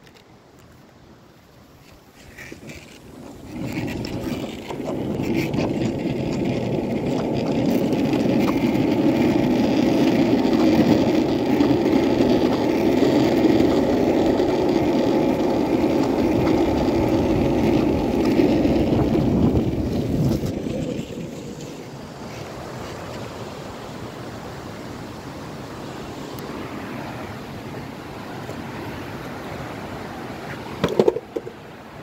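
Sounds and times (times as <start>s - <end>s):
skateboard wheels rolling on asphalt: 0.0s - 32.0s.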